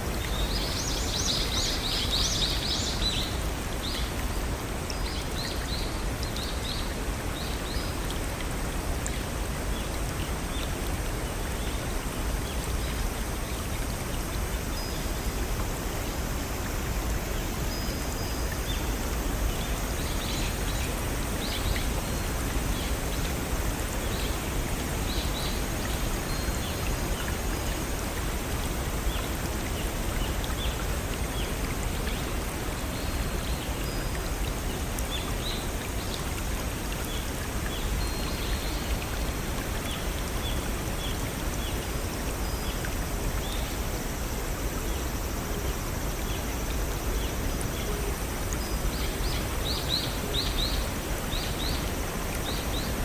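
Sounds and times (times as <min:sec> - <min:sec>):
small waterfall and brook running: 0:00.0 - 0:53.0.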